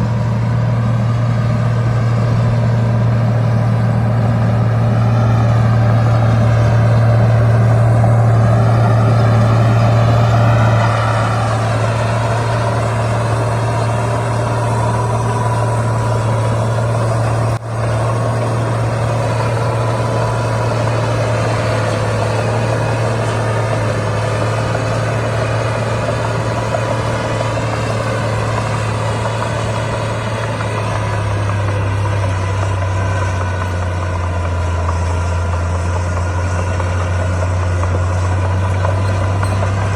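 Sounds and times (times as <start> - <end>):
diesel earthmoving machinery droning: 0.0 - 39.9.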